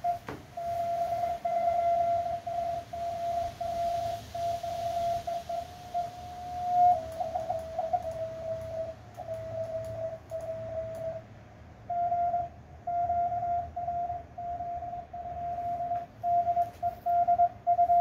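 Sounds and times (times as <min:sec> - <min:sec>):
morse code beeps: 0:00.0 - 0:11.2, 0:11.9 - 0:18.0.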